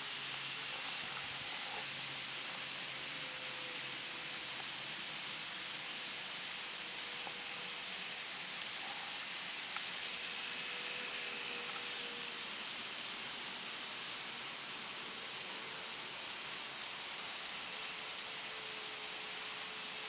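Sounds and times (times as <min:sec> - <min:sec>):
model train motor whine: 0:00.0 - 0:20.0
steady hiss: 0:00.0 - 0:20.0.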